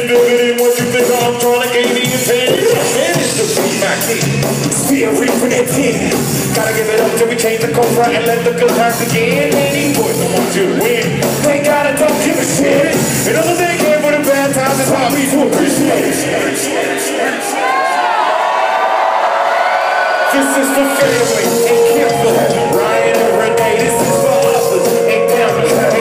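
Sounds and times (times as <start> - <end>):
live band music: 0.0 - 16.0, 20.3 - 26.0.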